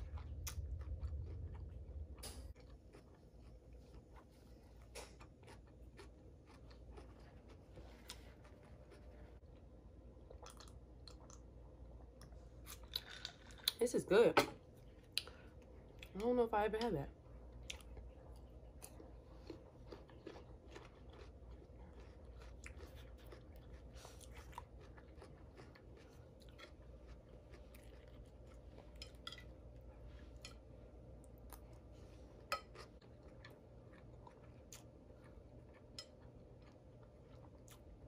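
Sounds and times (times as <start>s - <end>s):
person chewing food: 0.0s - 13.8s, 17.3s - 38.0s
steady low hum: 0.0s - 38.0s.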